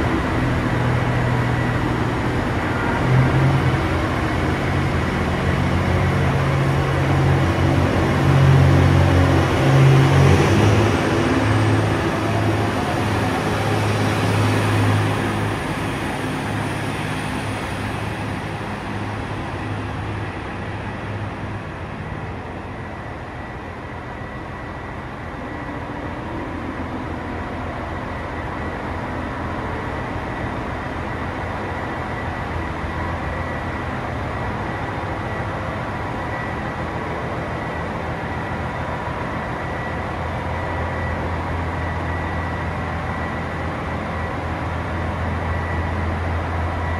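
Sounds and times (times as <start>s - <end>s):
diesel railcar engine under load: 0.0s - 46.9s.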